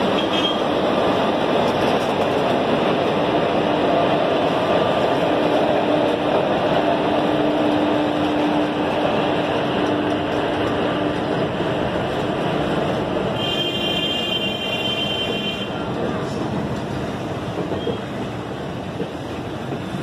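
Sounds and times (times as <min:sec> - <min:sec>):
locomotive hum: 0:00.0 - 0:20.0
train wheels rumbling on rails: 0:00.0 - 0:20.0.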